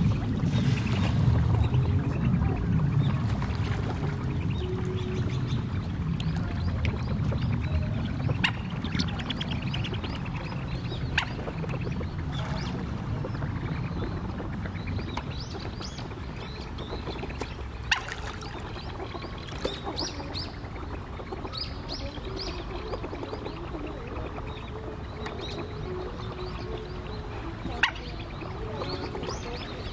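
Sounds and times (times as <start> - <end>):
steady low rumble: 0.0 - 29.9.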